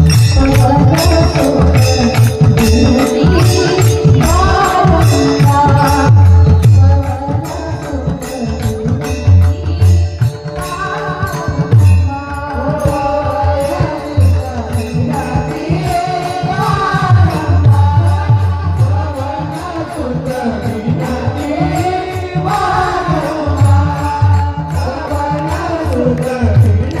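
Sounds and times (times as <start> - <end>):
woman singing devotional song: 0.0 - 27.0.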